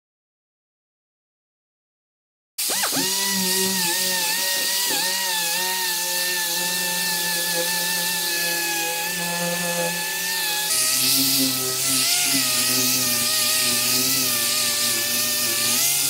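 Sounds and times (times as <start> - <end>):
orbital sander sanding wood: 2.6 - 16.0.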